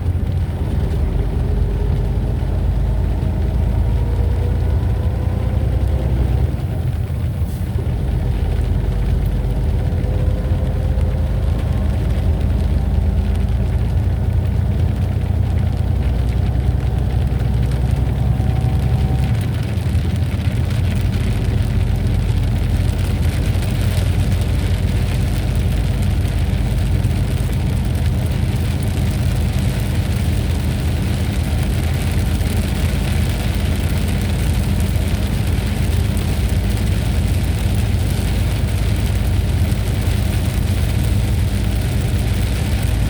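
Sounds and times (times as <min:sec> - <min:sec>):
heavy low thunder rumble: 0:00.0 - 0:43.0
rain: 0:00.0 - 0:43.0.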